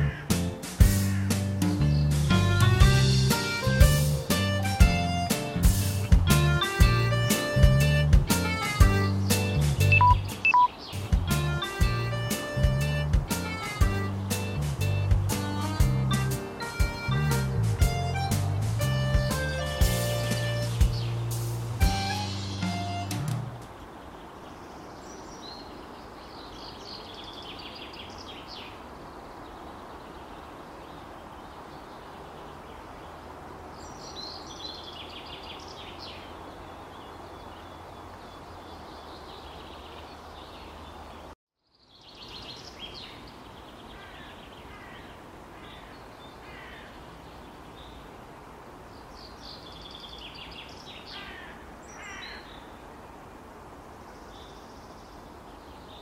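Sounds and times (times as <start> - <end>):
birds calling: 0.0 - 48.1, 49.0 - 52.9
background hiss: 0.0 - 56.0.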